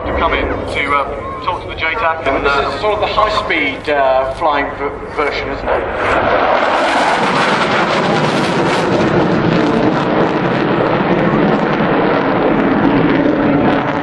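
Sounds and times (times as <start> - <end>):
jet flying past: 0.0 - 14.0.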